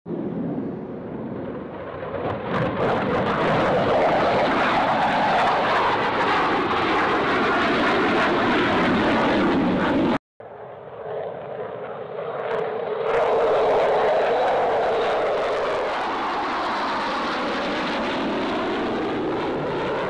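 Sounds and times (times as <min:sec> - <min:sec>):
jet engine roar: 0:00.1 - 0:20.0.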